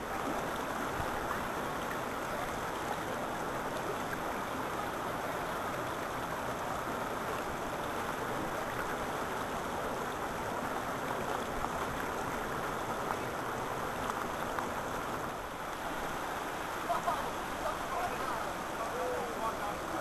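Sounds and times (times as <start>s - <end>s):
river rushing over boulders: 0.0s - 20.0s.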